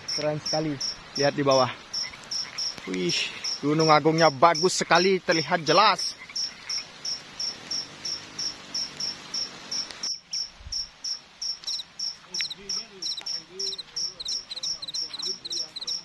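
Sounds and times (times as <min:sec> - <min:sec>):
insect doubled chirp: 0:00.0 - 0:16.0
insects chirping: 0:00.0 - 0:16.0.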